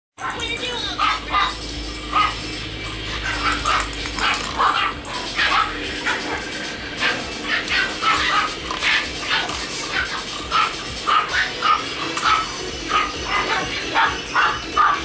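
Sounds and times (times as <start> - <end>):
puppies yipping and barking: 0.2 - 15.0.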